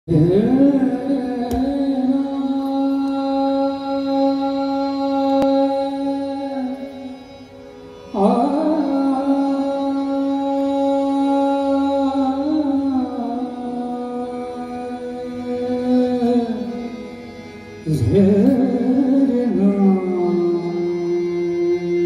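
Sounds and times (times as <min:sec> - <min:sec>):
man singing long held notes: 0:00.1 - 0:07.5, 0:08.1 - 0:22.0
harmonium: 0:00.1 - 0:22.0.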